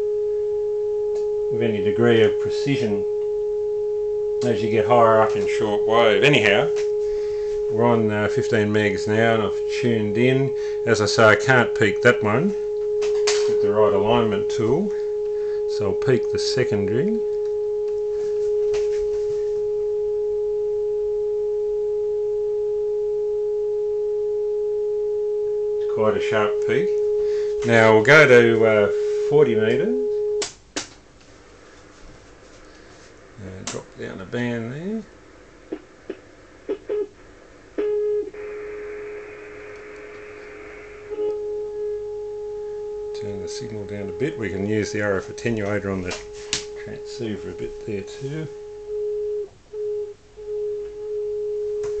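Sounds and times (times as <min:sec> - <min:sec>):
receiver hiss: 0:00.0 - 0:20.0, 0:25.2 - 0:52.0
steady test tone: 0:00.0 - 0:30.5, 0:32.6 - 0:52.0.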